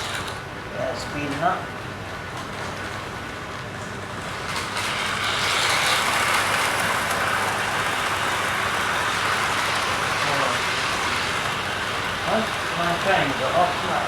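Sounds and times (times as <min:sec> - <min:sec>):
model train running on track: 0:00.0 - 0:00.4, 0:01.0 - 0:14.0.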